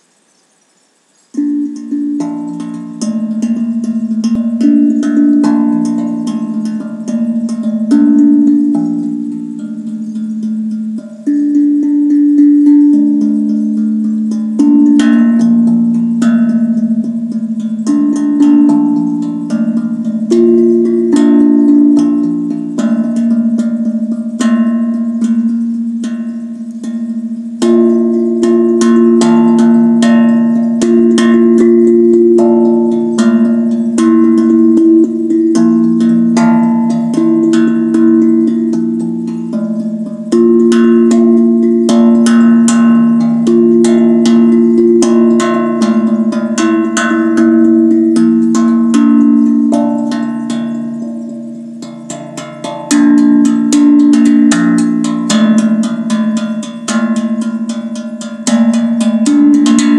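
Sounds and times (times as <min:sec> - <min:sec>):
steel tank drum played by hand: 0:01.4 - 0:59.9.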